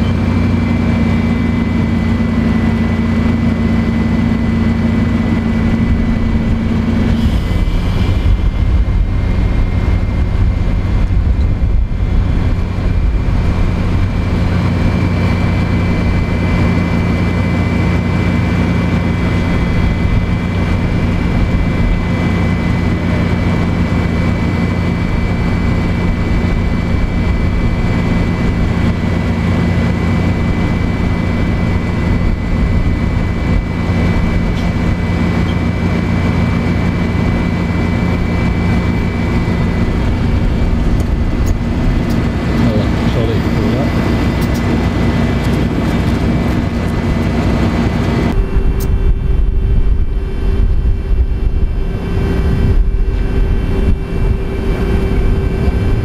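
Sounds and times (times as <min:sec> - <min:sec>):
bus engine idling: 0:00.0 - 0:56.0
thin high whine: 0:00.0 - 0:56.0.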